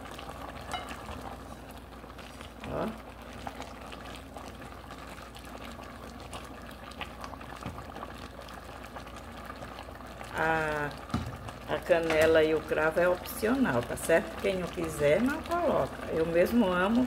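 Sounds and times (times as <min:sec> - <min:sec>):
syrup bubbling in a pot: 0:00.0 - 0:17.0.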